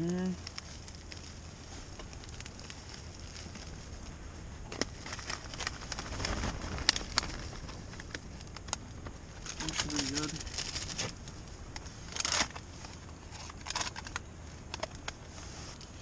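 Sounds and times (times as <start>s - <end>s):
plastic bag crinkling: 0.0s - 4.0s, 4.7s - 8.8s, 9.4s - 14.2s
sharp crackles: 0.0s - 16.0s.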